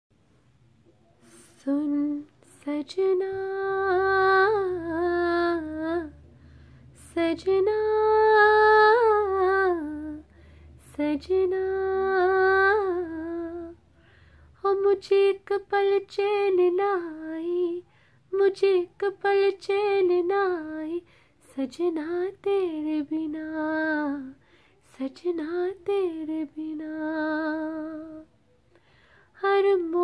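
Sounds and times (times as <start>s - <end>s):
faint low hum: 0.2s - 30.0s.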